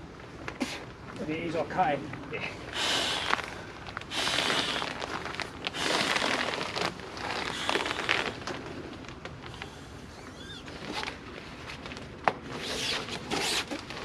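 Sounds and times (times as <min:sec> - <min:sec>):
tarp rustling and crinkling: 0:02.7 - 0:14.0.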